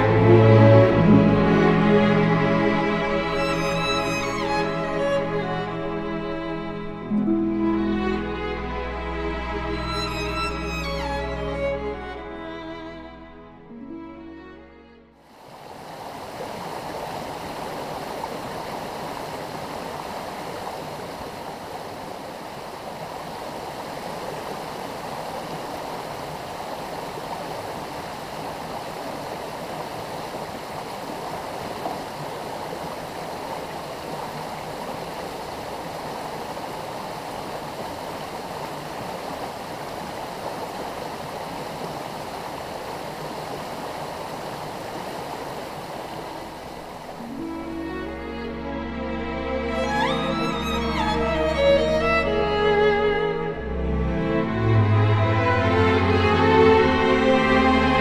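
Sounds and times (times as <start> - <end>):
stream rushing over rocks: 0.0 - 12.9, 15.2 - 58.0.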